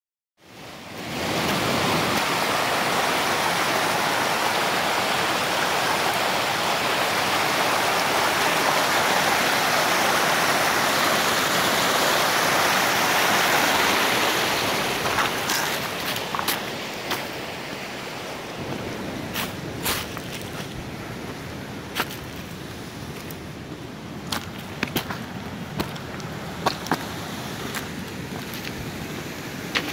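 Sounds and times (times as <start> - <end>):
creek rushing over boulders: 0.4 - 29.9.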